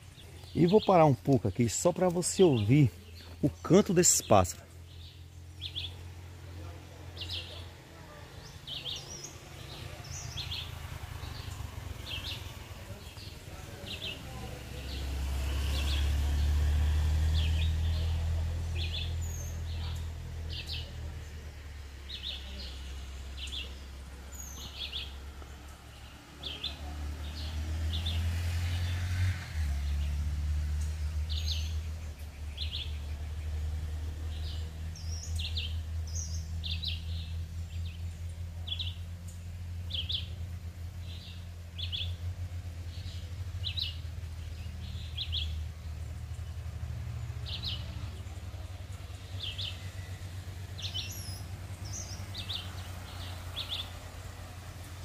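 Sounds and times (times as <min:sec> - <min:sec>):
forest birds singing: 0:00.0 - 0:55.0.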